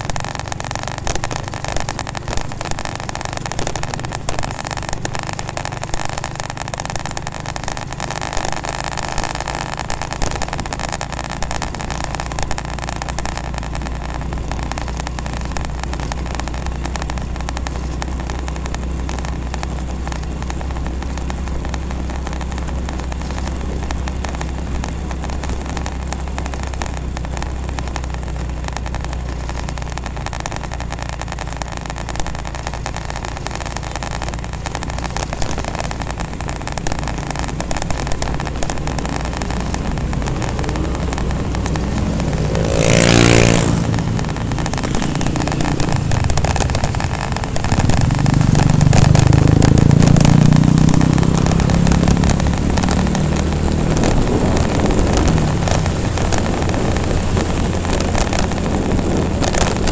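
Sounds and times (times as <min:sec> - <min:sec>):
motorcycle engine running: 0:00.0 - 0:59.9
wind noise on microphone: 0:07.0 - 0:59.9.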